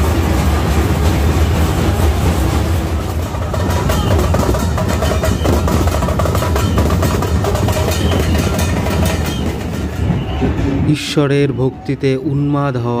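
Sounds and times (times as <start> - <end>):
large drums beating fast: 0.0 - 10.9
crowd noise: 0.0 - 13.0.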